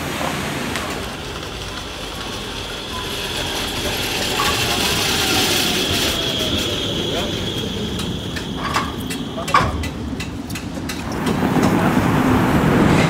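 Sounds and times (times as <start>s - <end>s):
rail transit running noise: 0.0s - 13.0s
streetcar high whine: 0.0s - 13.0s.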